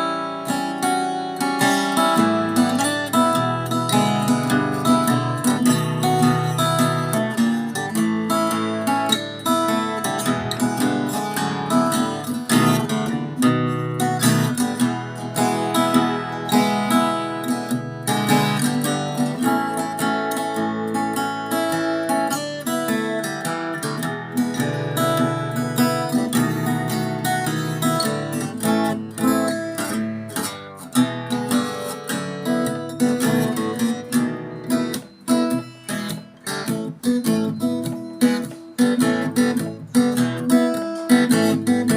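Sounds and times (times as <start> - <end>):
acoustic guitar strummed and picked: 0.0 - 41.9.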